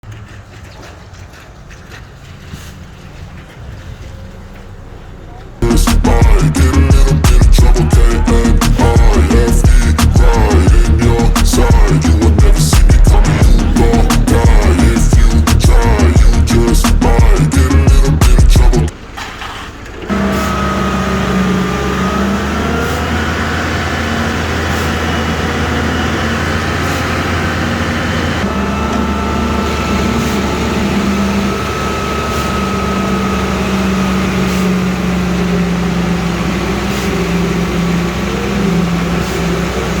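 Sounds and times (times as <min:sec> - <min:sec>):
diesel engine running: 0:00.0 - 0:40.0
steady whine: 0:05.6 - 0:18.9, 0:20.1 - 0:40.0.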